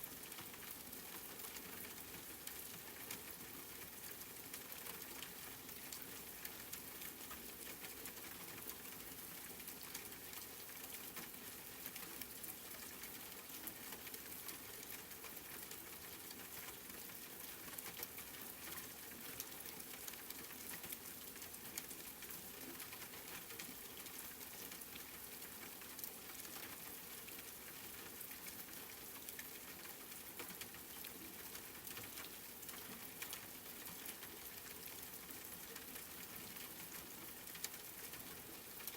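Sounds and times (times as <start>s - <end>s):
rain on a hard surface: 0.0s - 38.9s.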